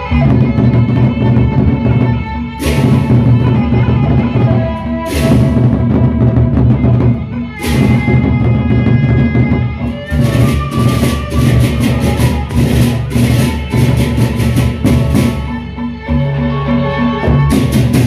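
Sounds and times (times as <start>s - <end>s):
barrel drums beating: 0.0s - 16.3s, 17.2s - 18.0s.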